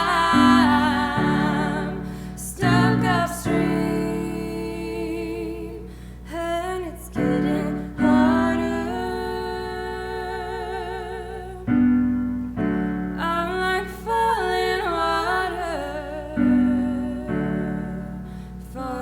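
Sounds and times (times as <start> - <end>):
person singing with vibrato: 0.0 - 19.0
piano chords: 0.0 - 19.0.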